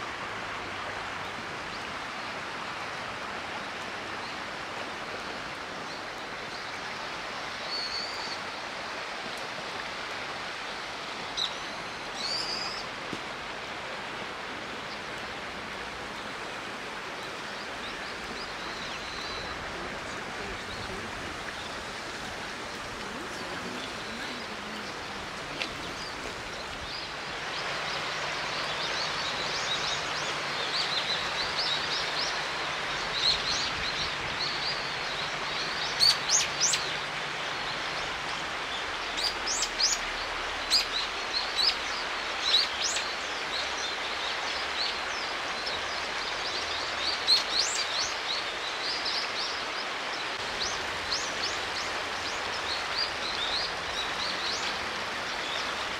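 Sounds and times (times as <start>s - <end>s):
river rushing over stones: 0.0s - 55.9s.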